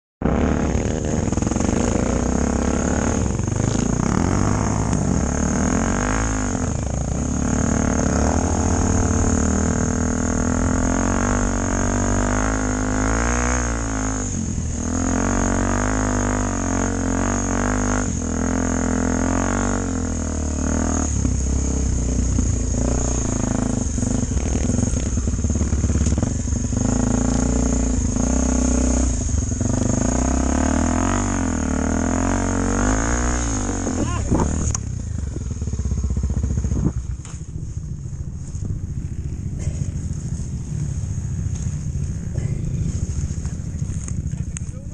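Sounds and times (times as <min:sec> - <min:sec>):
motorcycle engine running: 0:00.2 - 0:44.9.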